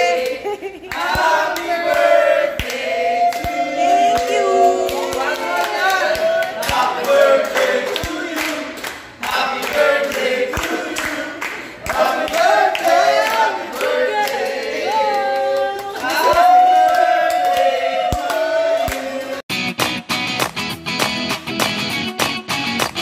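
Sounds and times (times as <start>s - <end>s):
group singing a celebration song: 0.0s - 19.5s
people clapping: 0.0s - 23.0s.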